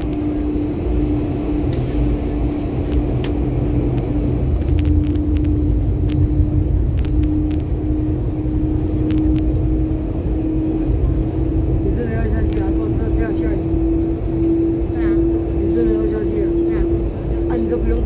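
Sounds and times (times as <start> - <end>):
steady hum: 0.0 - 18.0
wheels rumbling on rails: 0.0 - 18.0.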